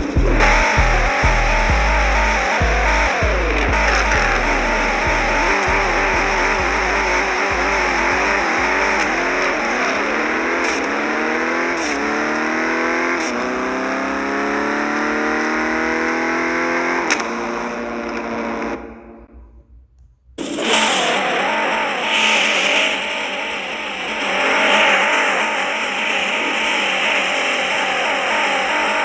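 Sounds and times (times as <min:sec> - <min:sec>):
car engine accelerating: 0:00.0 - 0:19.7, 0:20.3 - 0:29.0.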